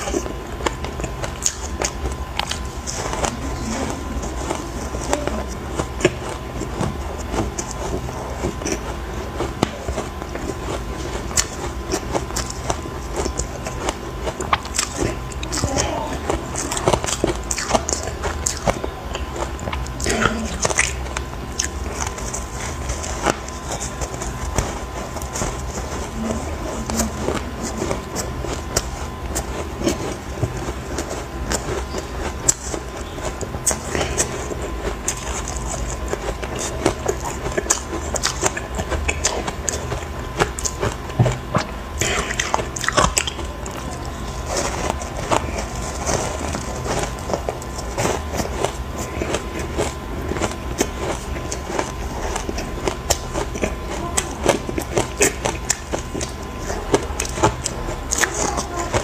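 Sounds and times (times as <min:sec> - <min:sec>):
ice crunching while chewed: 0:00.0 - 0:59.0.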